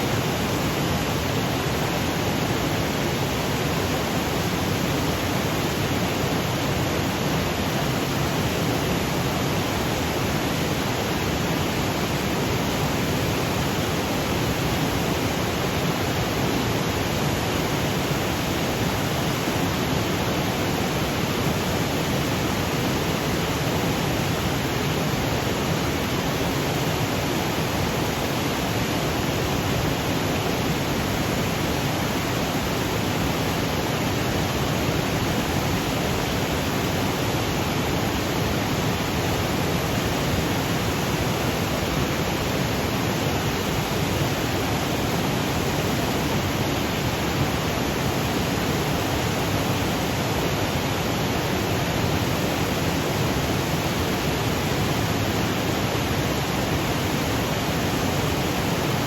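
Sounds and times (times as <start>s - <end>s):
waterfall over boulders: 0.0s - 59.0s.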